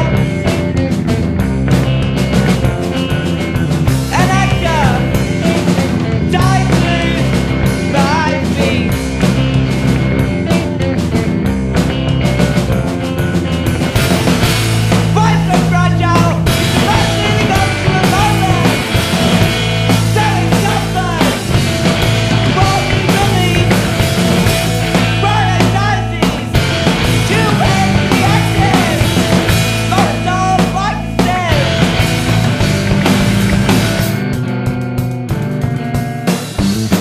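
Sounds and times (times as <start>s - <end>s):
drum hits: 0.0s - 37.0s
rock band music: 0.0s - 37.0s.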